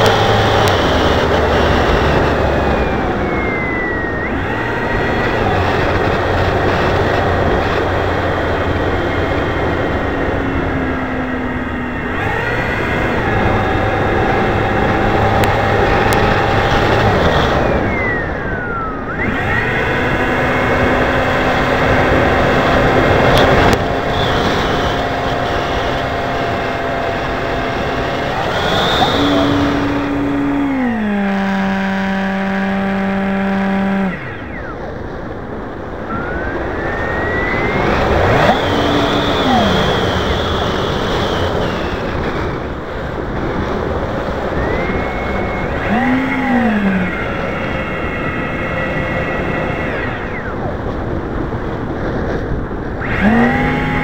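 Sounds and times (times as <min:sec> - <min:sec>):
heavy wind rush: 0:00.0 - 0:31.2, 0:34.1 - 0:54.0
model airplane motor: 0:00.0 - 0:54.0.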